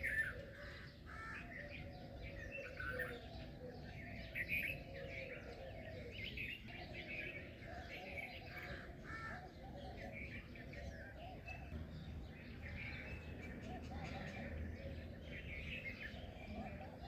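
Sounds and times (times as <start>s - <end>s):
chorus of birds chirping: 0.0s - 17.0s.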